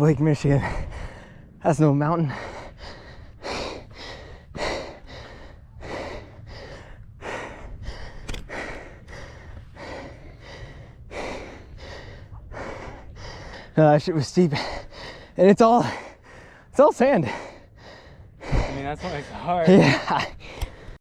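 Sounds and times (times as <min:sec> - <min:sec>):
person panting and gasping: 0:00.5 - 0:01.6, 0:02.2 - 0:21.0.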